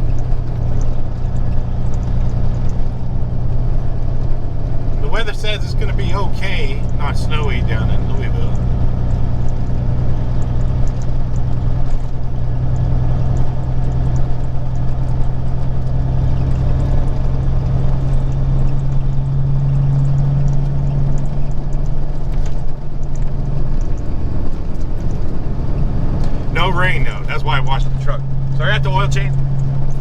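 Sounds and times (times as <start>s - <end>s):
road noise: 0.0s - 30.0s
truck diesel engine drone: 0.0s - 30.0s.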